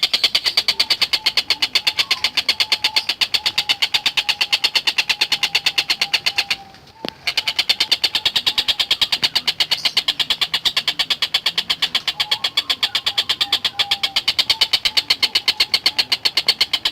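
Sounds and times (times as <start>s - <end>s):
kingfisher rattling call: 0.0s - 16.9s.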